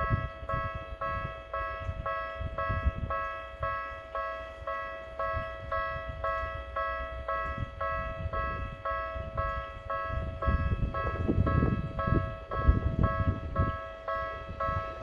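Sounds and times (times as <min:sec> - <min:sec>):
level crossing warning bell: 0:00.0 - 0:15.0
wind buffeting microphone: 0:00.0 - 0:15.0.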